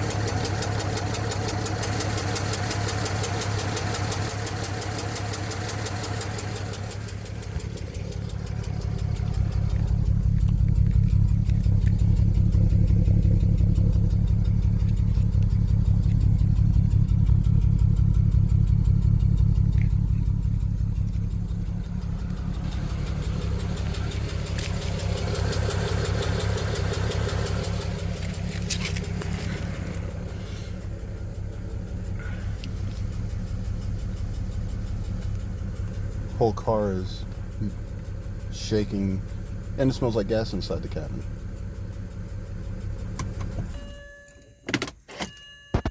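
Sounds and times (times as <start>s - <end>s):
car engine running rough: 0.0s - 43.8s.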